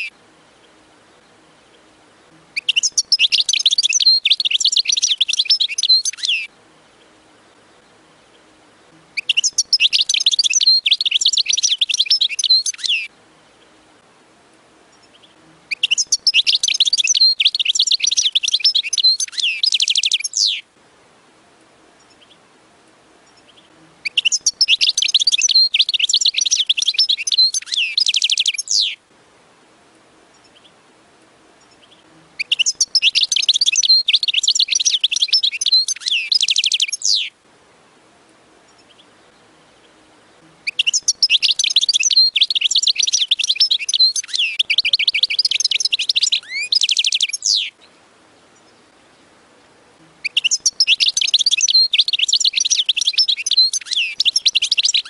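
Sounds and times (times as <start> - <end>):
bird twittering and trilling: 0.0 - 13.8, 14.9 - 20.6, 23.2 - 29.0, 31.6 - 37.4, 38.7 - 49.2, 50.2 - 55.0.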